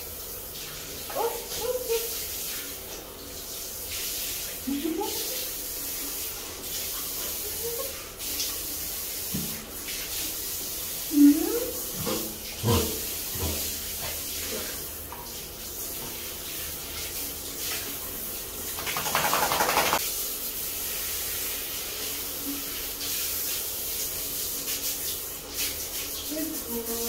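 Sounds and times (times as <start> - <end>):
shower water spraying: 0.0 - 27.0.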